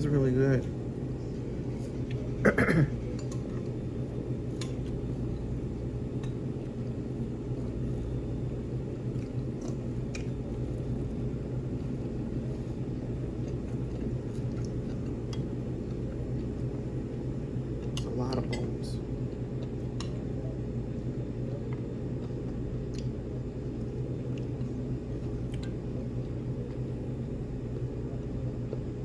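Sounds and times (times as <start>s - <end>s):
steady room hum: 0.0s - 29.0s
soft chewing: 0.6s - 28.9s.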